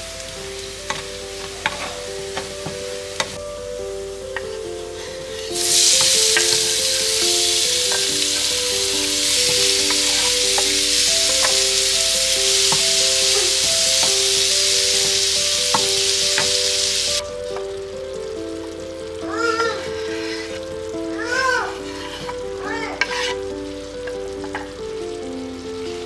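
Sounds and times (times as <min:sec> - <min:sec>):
background music: 0:00.0 - 0:26.0
food sizzling in a frying pan: 0:00.0 - 0:26.0.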